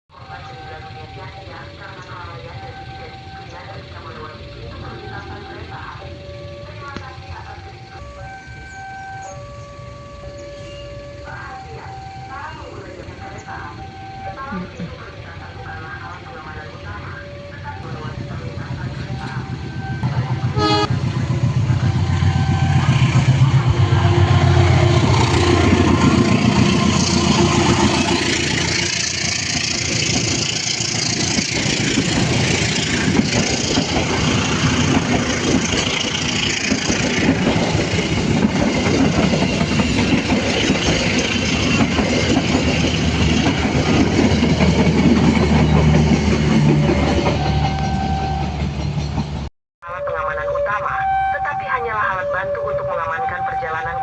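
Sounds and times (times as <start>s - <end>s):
vehicle engines revving in traffic: 0.1s - 49.5s.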